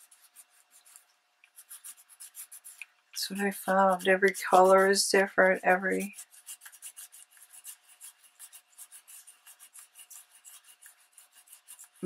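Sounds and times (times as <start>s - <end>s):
cloth rubbing on paper: 0.0s - 12.0s.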